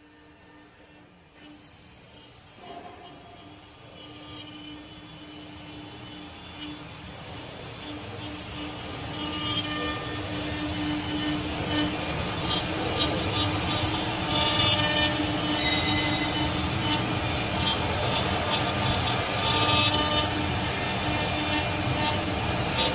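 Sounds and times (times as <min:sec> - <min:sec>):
spindle motor humming: 0:01.5 - 0:22.9
router bit rasping wood: 0:02.8 - 0:22.9.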